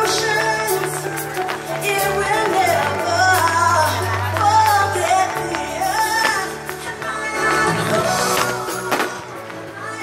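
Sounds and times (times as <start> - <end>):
band music with singing: 0.0 - 10.0.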